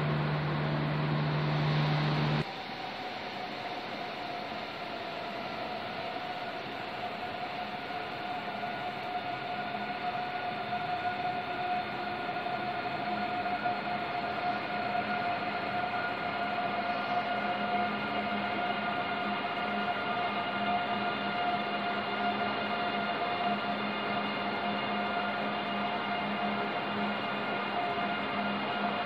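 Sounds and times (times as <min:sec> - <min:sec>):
station hall hum and hiss: 0:00.0 - 0:29.0.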